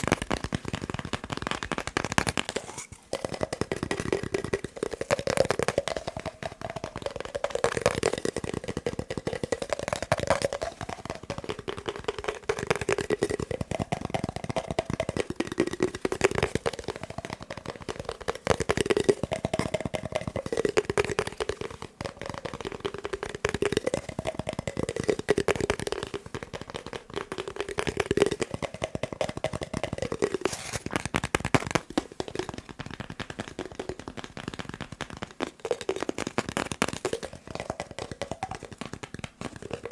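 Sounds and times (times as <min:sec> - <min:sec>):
fingertips tapping paper roll: 0:00.0 - 0:39.9.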